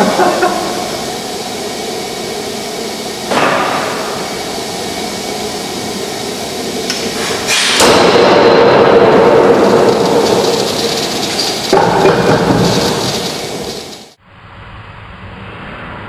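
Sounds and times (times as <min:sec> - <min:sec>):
power hammer machinery hissing: 0:00.0 - 0:14.2.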